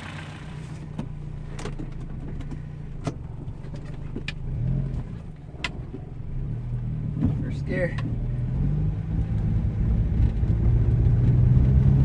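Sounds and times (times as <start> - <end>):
car engine humming in cabin: 0.0 - 12.0.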